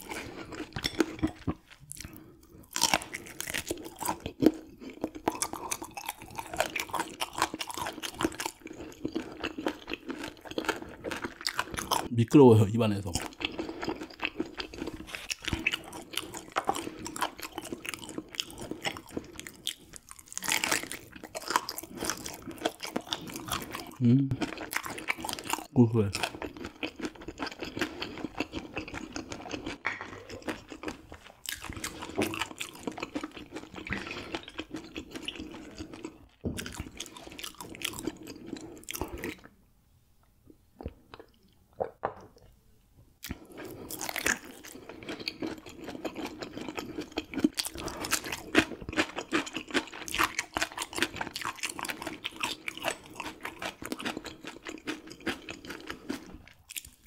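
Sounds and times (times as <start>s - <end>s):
chewing and crunching bones: 0.0s - 12.1s, 12.9s - 39.6s, 43.2s - 57.0s.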